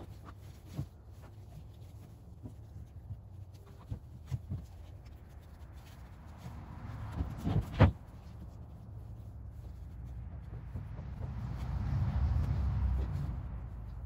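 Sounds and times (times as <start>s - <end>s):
low steady rumble: 0.0s - 14.0s
rubbing and scraping: 0.0s - 14.0s.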